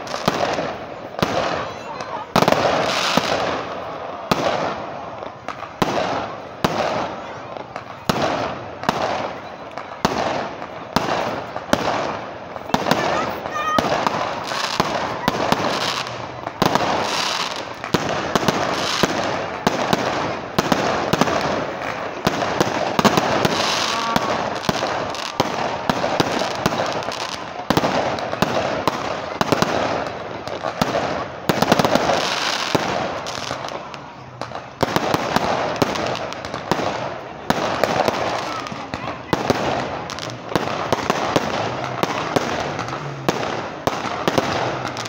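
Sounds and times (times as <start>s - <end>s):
fireworks bangs and crackles: 0.0s - 45.0s.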